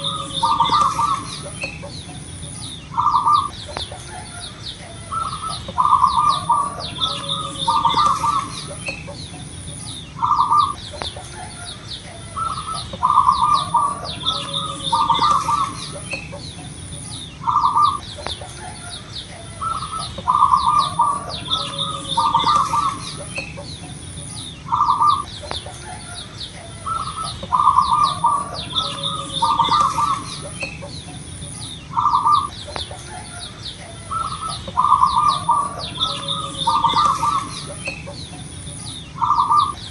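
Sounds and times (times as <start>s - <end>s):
dove cooing: 0.0s - 39.9s
faint high chirps: 0.0s - 39.9s.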